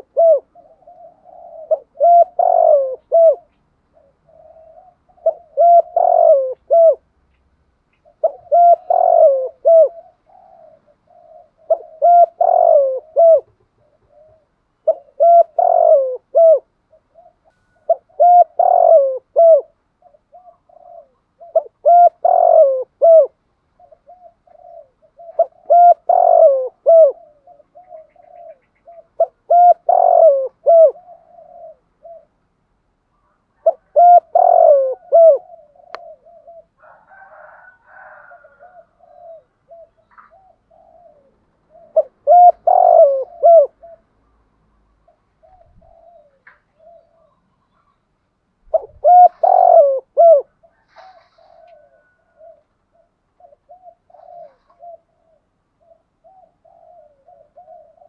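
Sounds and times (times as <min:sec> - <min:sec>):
dove cooing: 0:00.0 - 0:48.0, 0:48.6 - 0:58.0.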